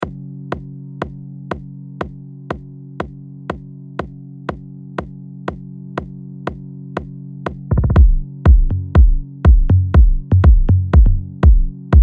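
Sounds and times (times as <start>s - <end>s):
drum machine kick: 0.0s - 12.0s.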